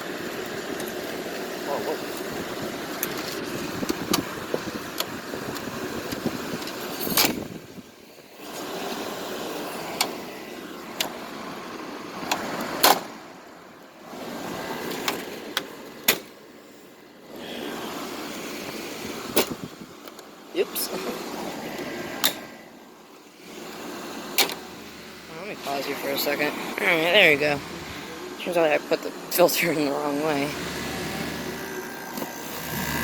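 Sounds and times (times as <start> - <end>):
steady background hum: 0.1 - 33.0.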